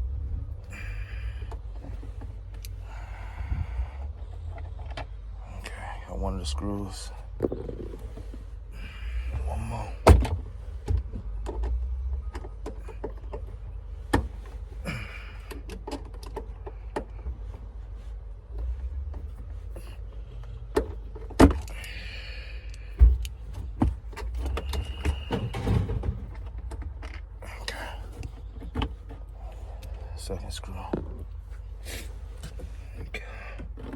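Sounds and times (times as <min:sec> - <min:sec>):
steady low rumble: 0:00.0 - 0:33.9.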